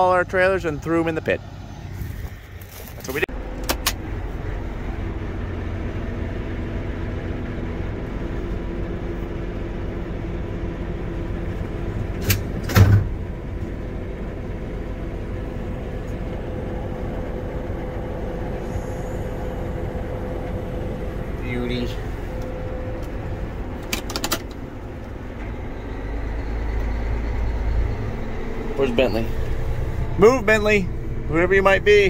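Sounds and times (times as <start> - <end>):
tractor running: 0.0 - 32.0.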